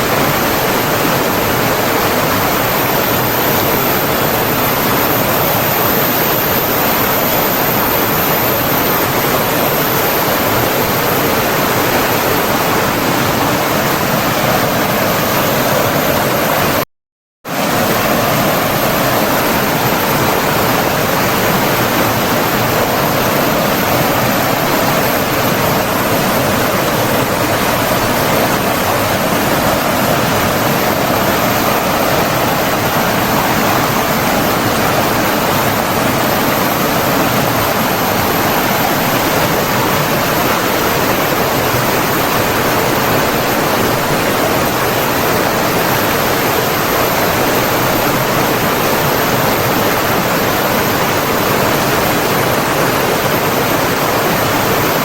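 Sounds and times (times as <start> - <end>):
water rushing: 0.0 - 16.8, 17.5 - 55.0.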